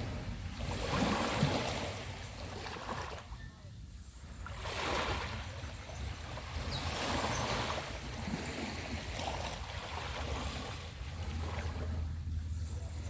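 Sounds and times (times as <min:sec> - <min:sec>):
waves washing onto beach: 0:00.0 - 0:13.0
wind rumble on microphone: 0:00.0 - 0:13.0.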